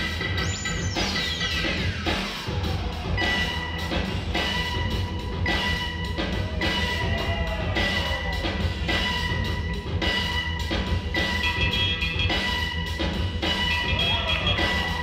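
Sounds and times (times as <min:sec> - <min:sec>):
drum beat with deep bass: 0:00.0 - 0:15.0.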